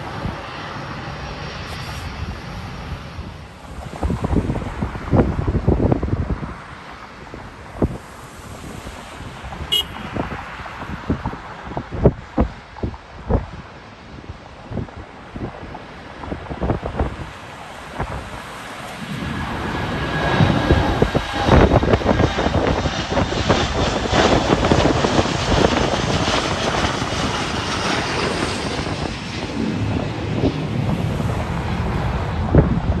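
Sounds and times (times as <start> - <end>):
jet engines passing close: 0.0 - 33.0
wind buffeting microphone: 0.0 - 33.0.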